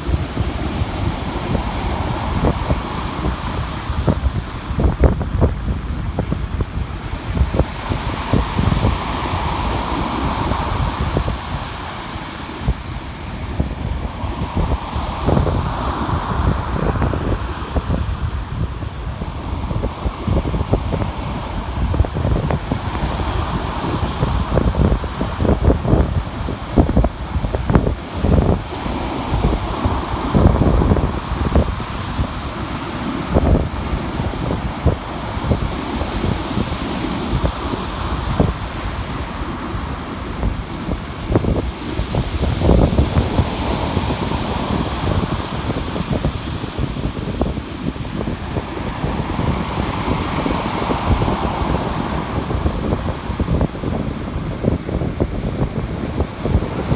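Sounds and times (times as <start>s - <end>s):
steady rushing noise: 0.0s - 56.9s
wind buffeting microphone: 0.0s - 56.9s.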